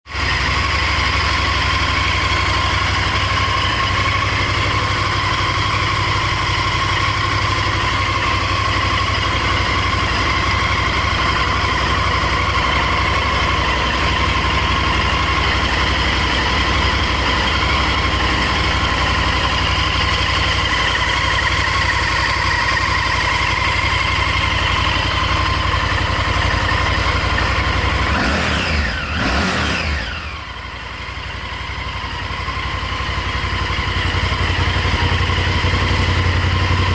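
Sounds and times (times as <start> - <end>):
motorcycle engine idling: 0.1 - 36.9.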